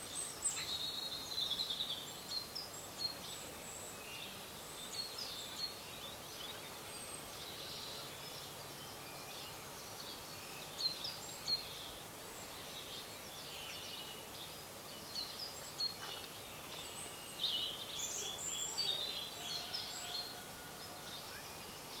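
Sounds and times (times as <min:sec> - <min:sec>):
small birds singing and chirping: 0:00.0 - 0:22.0.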